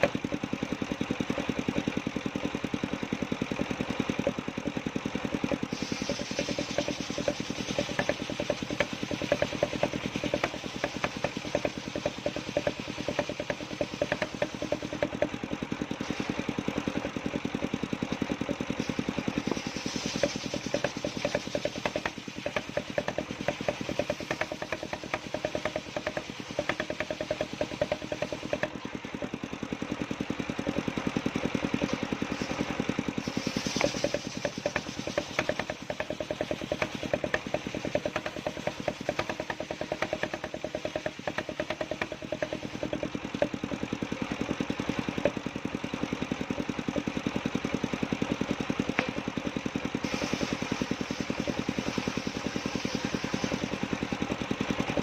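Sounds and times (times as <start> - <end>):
circular saw engine running: 0.0 - 55.0.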